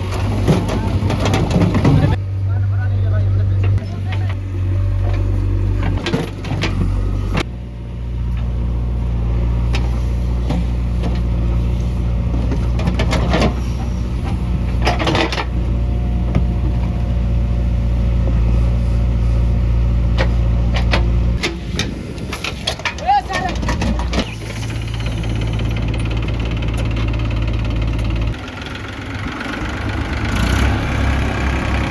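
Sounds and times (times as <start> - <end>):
heavy diesel engine under load: 0.0 - 31.9.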